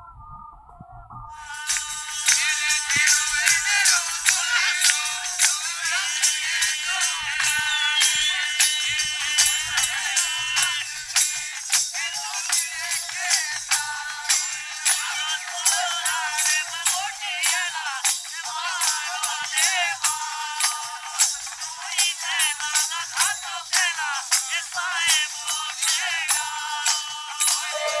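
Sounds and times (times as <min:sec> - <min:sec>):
jingling frame drum: 0:01.4 - 0:26.4, 0:27.4 - 0:28.0
hand-clapping: 0:01.4 - 0:28.0
men singing: 0:01.4 - 0:28.0.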